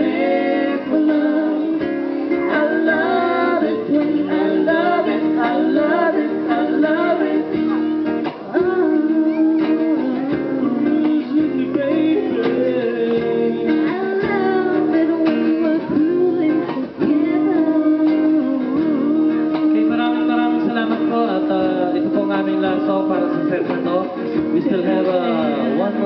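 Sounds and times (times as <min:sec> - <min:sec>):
person singing: 0:00.0 - 0:26.0
strummed acoustic guitar: 0:00.0 - 0:26.0.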